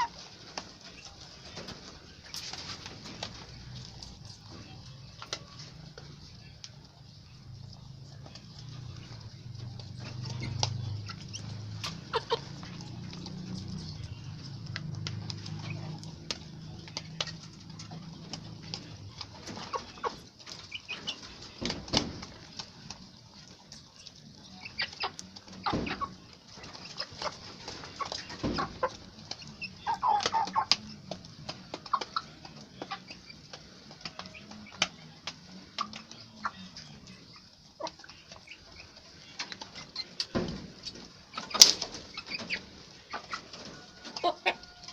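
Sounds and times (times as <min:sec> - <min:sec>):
clicks of pecking and scratching: 0:00.0 - 0:37.2, 0:37.8 - 0:44.9
chickens clucking: 0:00.0 - 0:44.9.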